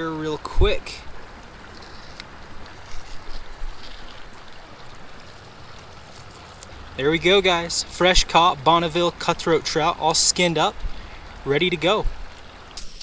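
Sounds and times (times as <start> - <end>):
shallow creek rushing: 0.0 - 13.0.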